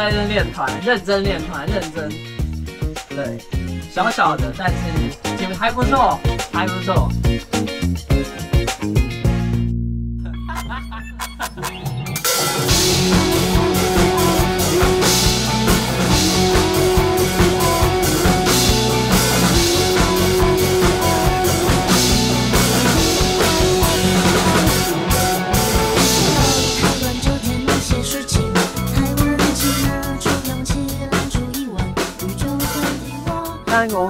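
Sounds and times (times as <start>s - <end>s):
drum kit beat: 0.0s - 9.7s, 11.2s - 34.0s
rock music: 0.0s - 9.7s, 10.3s - 34.0s
guitar: 0.0s - 34.0s.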